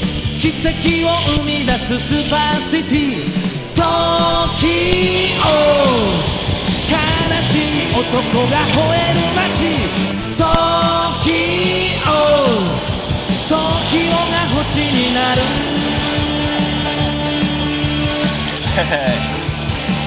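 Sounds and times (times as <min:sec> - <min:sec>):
rock music with guitar lead: 0:00.0 - 0:20.0.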